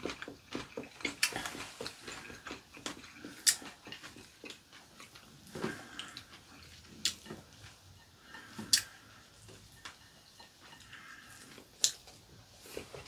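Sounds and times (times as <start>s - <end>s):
soft eating sounds: 0.0s - 13.0s.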